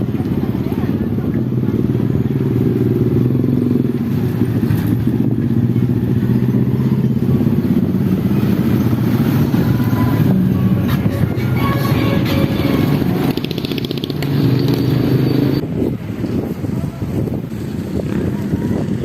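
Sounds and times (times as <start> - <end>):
engine running low: 0.0 - 19.0.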